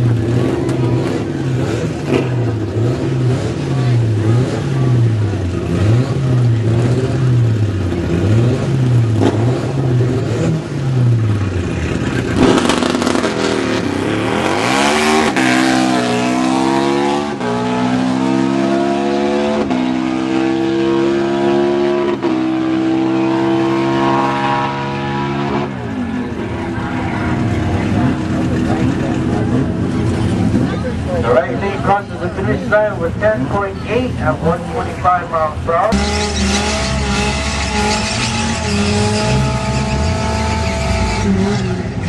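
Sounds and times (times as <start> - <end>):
motorcycle engine revving and accelerating: 0.0 - 34.0, 35.9 - 42.0.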